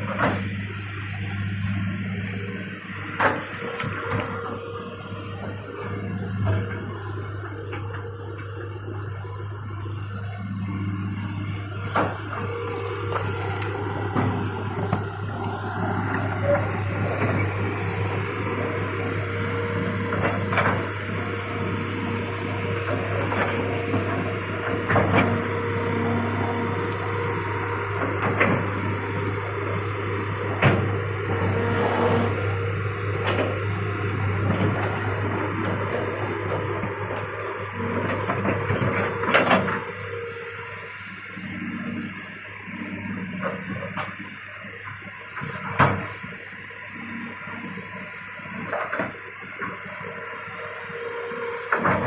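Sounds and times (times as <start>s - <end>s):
excavator engine droning: 0.0s - 52.0s.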